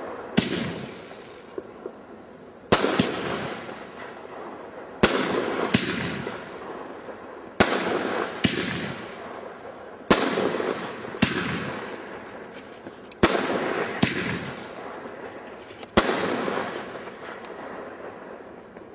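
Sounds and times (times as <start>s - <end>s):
fireworks hiss: 0.0s - 18.9s
fireworks loud bangs: 0.0s - 18.9s.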